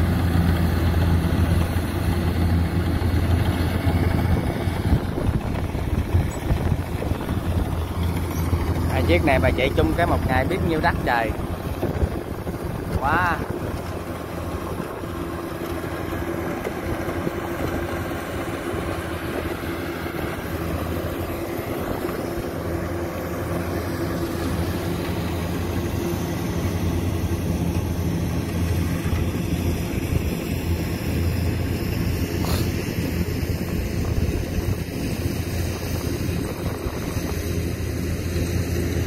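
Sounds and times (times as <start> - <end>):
combine harvester engines droning: 0.0 - 39.0.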